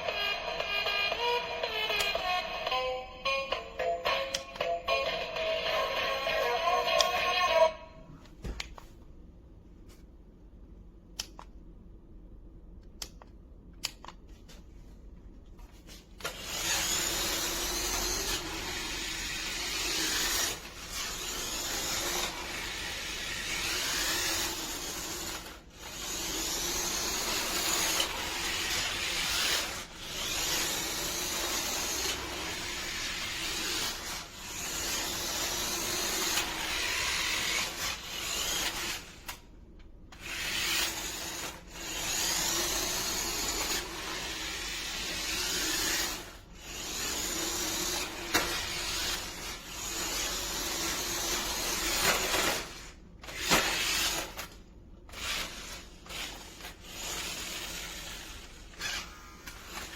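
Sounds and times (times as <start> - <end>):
toy truck electric motor: 0.0 - 3.0, 5.0 - 7.8, 16.2 - 39.4, 40.1 - 59.9.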